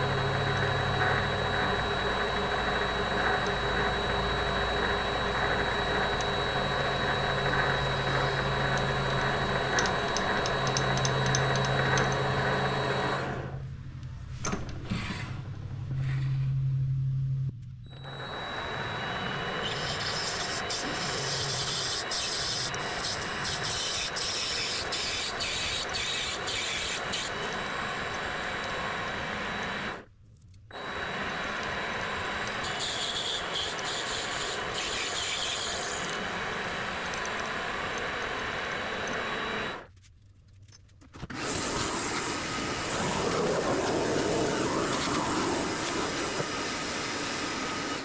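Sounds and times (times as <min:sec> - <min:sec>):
lathe running with high whine: 0:00.0 - 0:13.7, 0:17.9 - 0:30.1, 0:30.7 - 0:39.9, 0:41.3 - 0:48.0.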